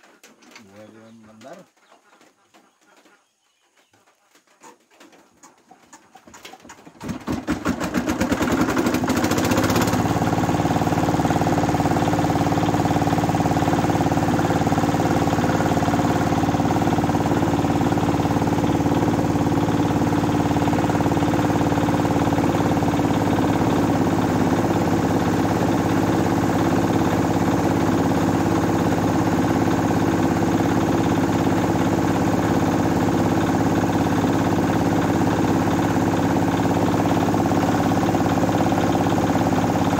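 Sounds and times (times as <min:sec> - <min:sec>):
diesel engine starting and running: 0:06.8 - 0:39.9.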